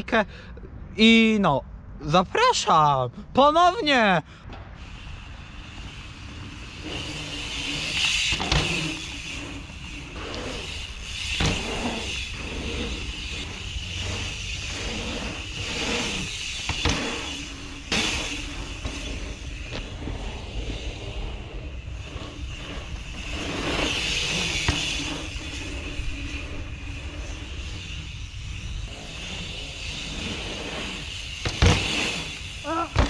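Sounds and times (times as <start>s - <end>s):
bike tyres rushing on asphalt: 4.2s - 33.0s.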